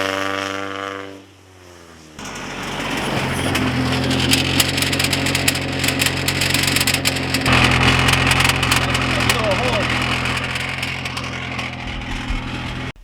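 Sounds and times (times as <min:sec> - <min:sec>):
car engine idling: 0:02.2 - 0:13.0.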